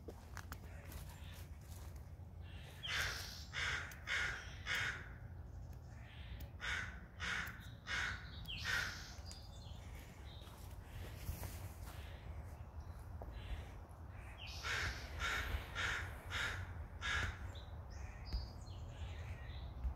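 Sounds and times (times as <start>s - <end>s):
bird calling: 1.1s - 12.2s, 12.9s - 19.6s.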